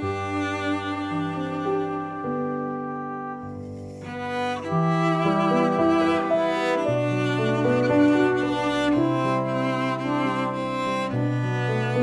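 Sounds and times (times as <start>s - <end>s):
slow bowed string music: 0.0s - 12.0s.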